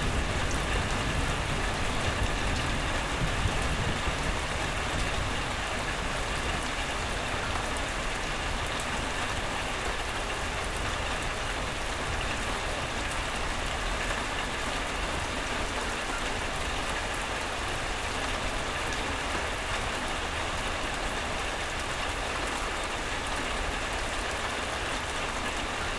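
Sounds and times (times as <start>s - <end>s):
steady rain hiss: 0.0s - 25.9s.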